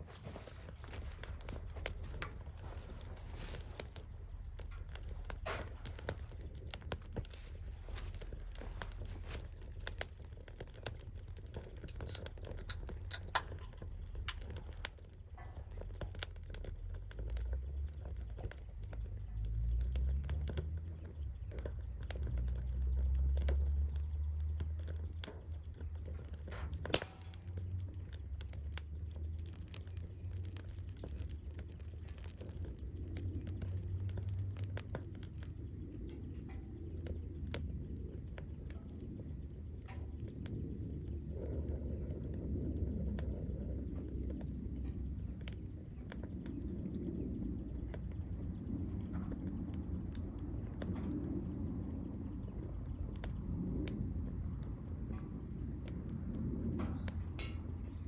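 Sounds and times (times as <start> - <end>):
low rumble: 0.0 - 58.0
small crackles and clicks: 0.0 - 58.0.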